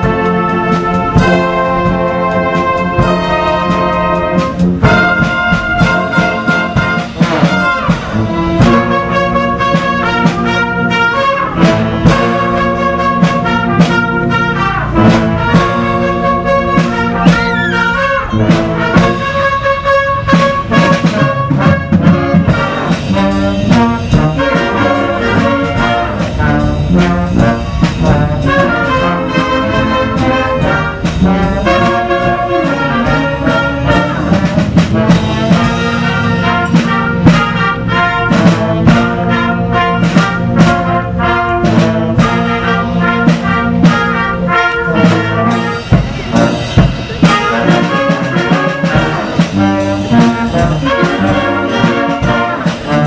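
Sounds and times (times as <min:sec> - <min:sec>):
band playing with brass horns: 0:00.0 - 0:53.0
drum kit beating: 0:00.0 - 0:53.0.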